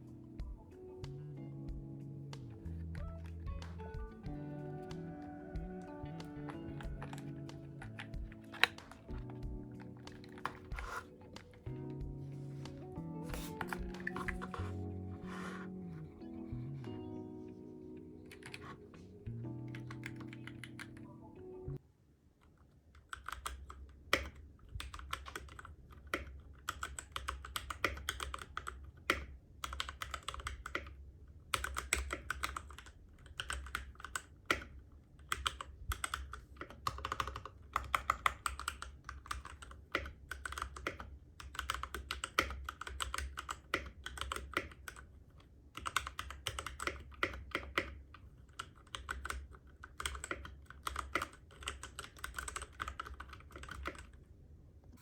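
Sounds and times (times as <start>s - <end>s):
mechanical keyboard typing: 2.4s - 21.4s, 23.0s - 54.2s.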